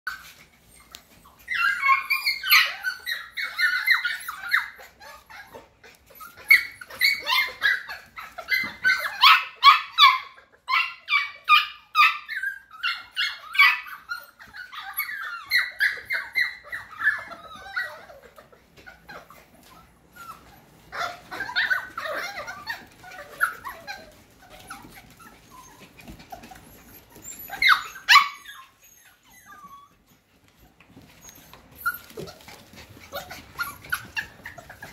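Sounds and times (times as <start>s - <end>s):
puppies yipping and whining: 0.1s - 34.9s.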